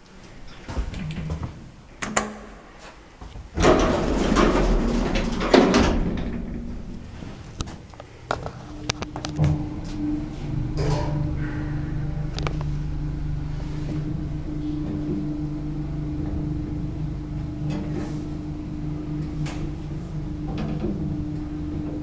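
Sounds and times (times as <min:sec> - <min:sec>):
lift doors sliding: 0:03.5 - 0:22.0.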